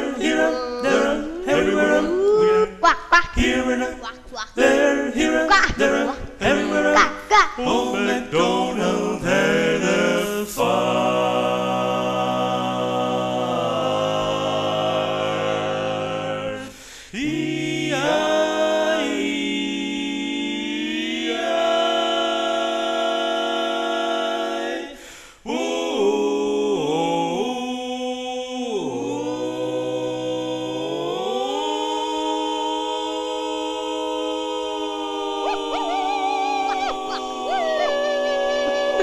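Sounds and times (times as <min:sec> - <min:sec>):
barbershop quartet singing a cappella: 0:00.0 - 0:39.0.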